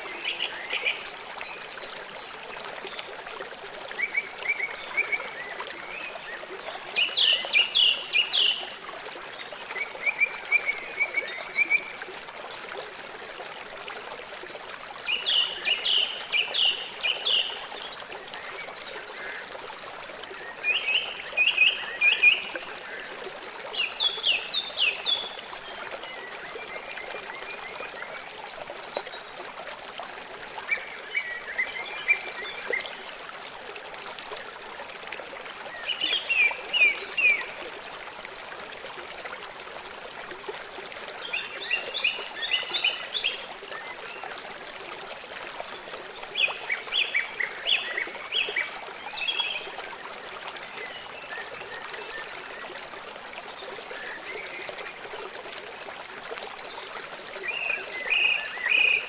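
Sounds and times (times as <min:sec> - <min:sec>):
stream running water: 0:00.0 - 0:59.0.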